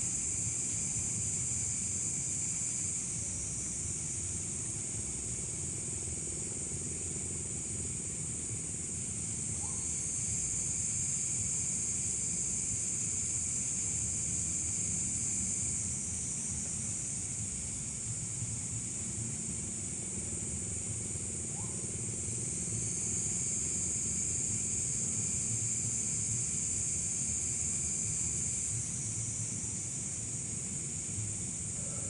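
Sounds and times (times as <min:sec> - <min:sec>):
insects buzzing: 0:00.0 - 0:32.0.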